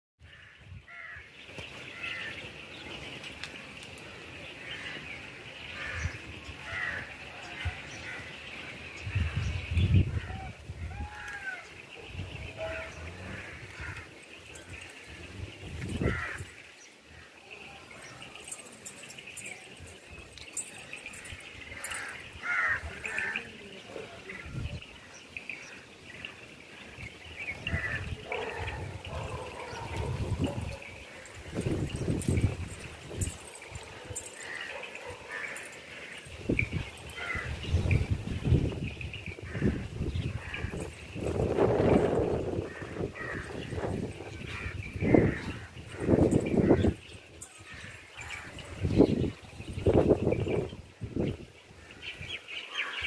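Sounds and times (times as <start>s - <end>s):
birds chirping and calling: 0.2s - 53.0s.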